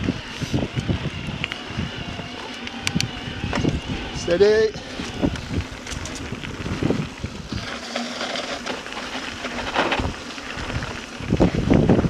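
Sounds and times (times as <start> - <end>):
bike buzzing on gravel trail: 0.0 - 12.0
tyres rumbling over rough ground: 0.0 - 12.0.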